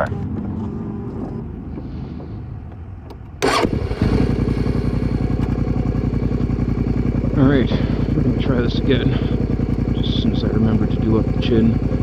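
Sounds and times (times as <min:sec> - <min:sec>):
motorcycle engine starting and idling: 0:00.0 - 0:12.0.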